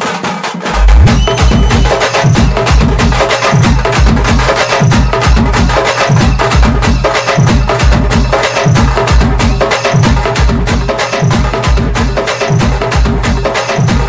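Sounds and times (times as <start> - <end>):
fast sharp drum strokes: 0.0 - 14.0
heavy repeating bass beat: 0.7 - 14.0.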